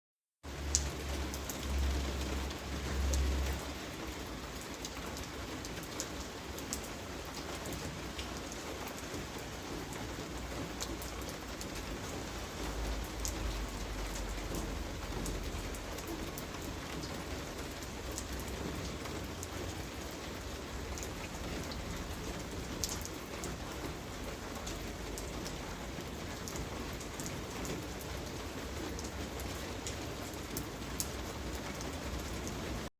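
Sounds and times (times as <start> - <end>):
raindrops ticking on surfaces: 0.4 - 32.9
steady rain falling: 0.4 - 32.9.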